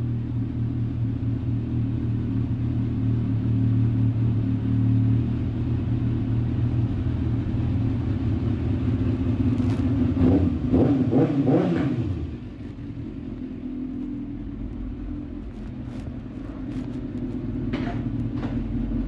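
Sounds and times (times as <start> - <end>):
motorcycle engine running steadily: 0.0 - 19.0.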